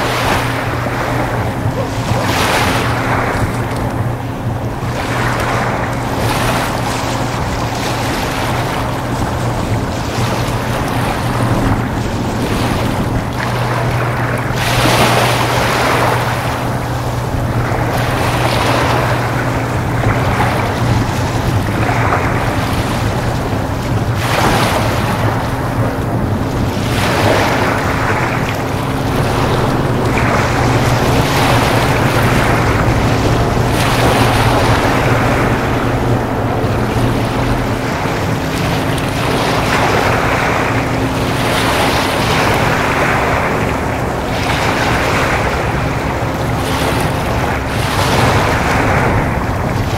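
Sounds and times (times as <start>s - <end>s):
choppy water washing: 0.0s - 49.9s
ferry diesel engines droning: 0.0s - 49.9s
wind on microphone: 0.0s - 49.9s.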